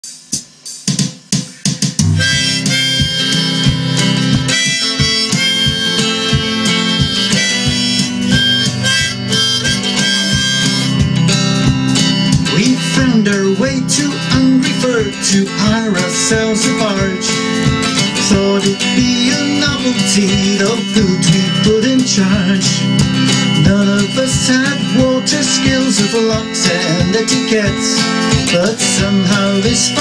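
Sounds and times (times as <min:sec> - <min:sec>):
harmonica long held notes: 0:01.4 - 0:30.0
strummed acoustic guitar: 0:01.4 - 0:30.0.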